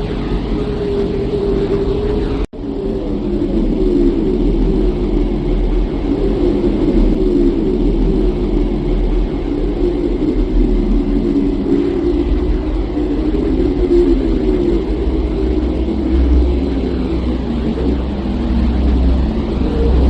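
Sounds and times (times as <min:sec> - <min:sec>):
wavering rumbling drone with hum: 0:00.0 - 0:20.0.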